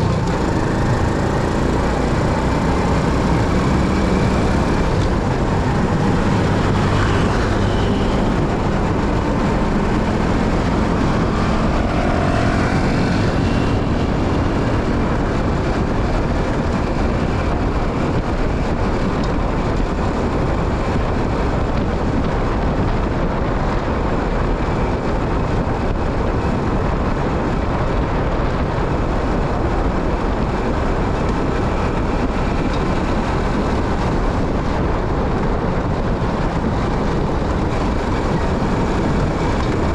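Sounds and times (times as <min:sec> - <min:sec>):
low motorcycle engine hum: 0:00.0 - 0:39.9
wind and road rush: 0:00.0 - 0:39.9.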